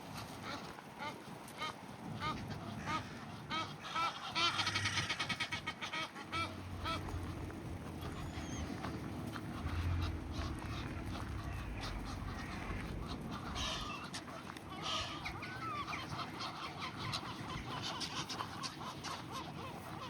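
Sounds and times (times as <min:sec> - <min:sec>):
geese honking: 0:00.2 - 0:20.0.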